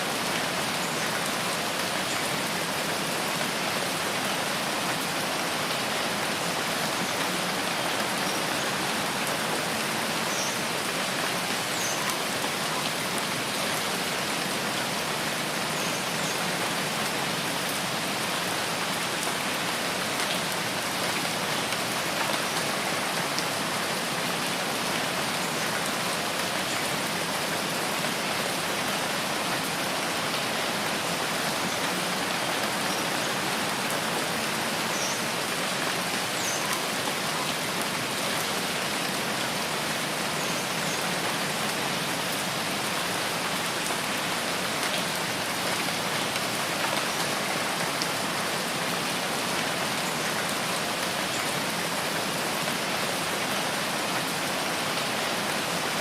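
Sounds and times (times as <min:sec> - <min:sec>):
rain falling on foliage: 0:00.0 - 0:56.0.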